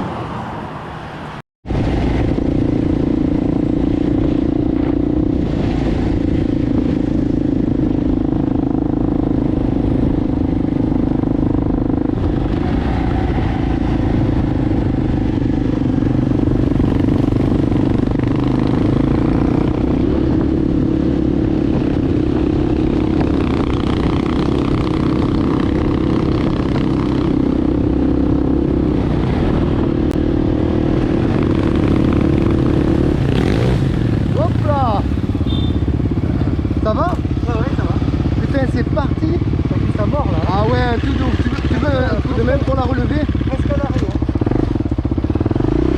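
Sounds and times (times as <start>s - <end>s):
motorcycle rattling: 1.7s - 45.9s
motorcycle engine running: 1.9s - 45.9s.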